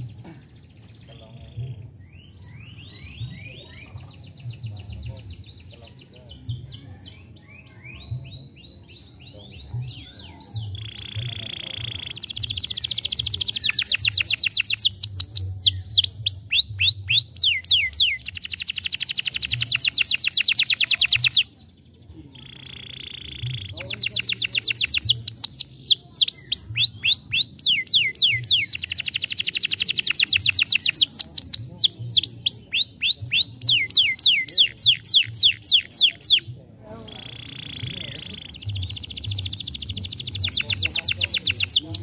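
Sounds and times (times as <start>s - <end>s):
canary singing: 0.8s - 21.6s, 22.3s - 42.0s.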